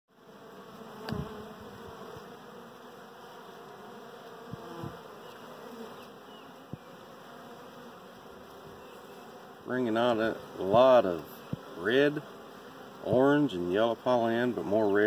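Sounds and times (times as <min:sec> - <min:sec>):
bees humming at a hive: 0:00.1 - 0:15.0
single bees buzzing past: 0:00.1 - 0:15.0.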